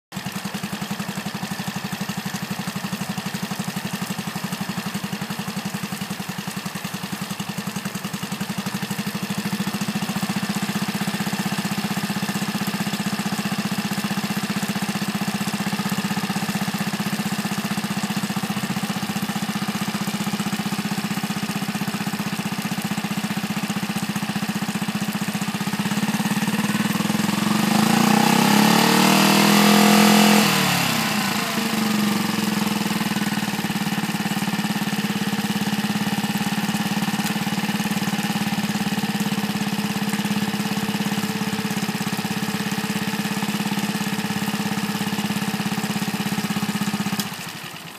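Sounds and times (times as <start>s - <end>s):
outboard motor idling and revving: 0.1s - 47.9s.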